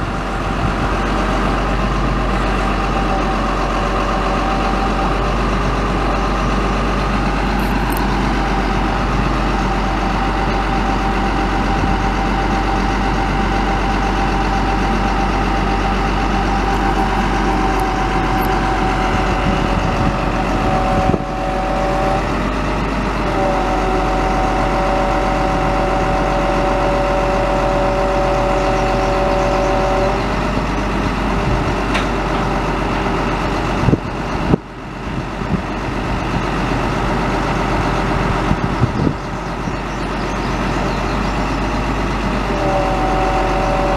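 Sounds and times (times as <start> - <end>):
diesel engine idling: 0.0 - 43.9
steady whine: 0.0 - 43.9.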